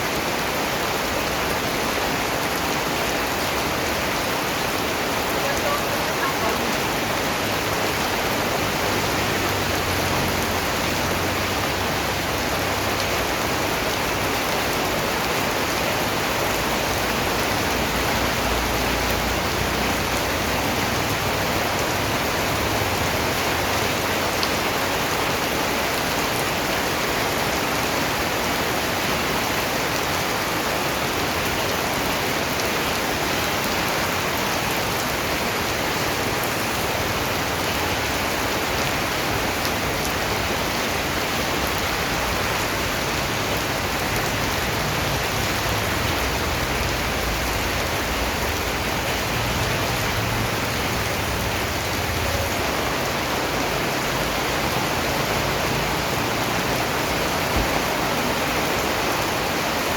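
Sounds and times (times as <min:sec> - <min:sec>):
rainfall hiss: 0:00.0 - 0:59.9.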